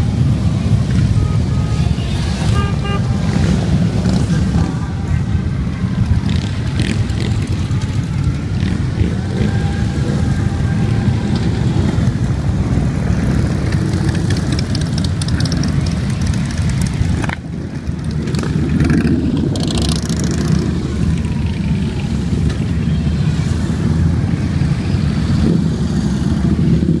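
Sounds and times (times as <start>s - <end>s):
motorcycles rumbling past: 2.0s - 27.0s.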